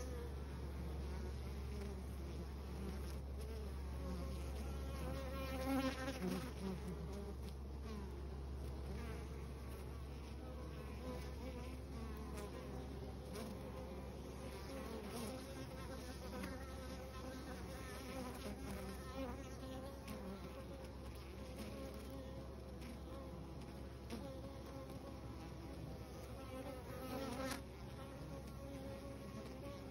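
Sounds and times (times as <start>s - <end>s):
honeybees buzzing: 0.0s - 29.9s.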